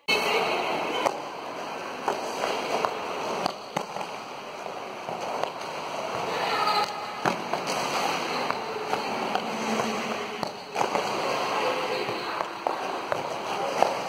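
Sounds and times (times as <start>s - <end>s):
skates clacking: 0.9s - 14.0s
roller skate wheels rolling: 2.1s - 14.0s.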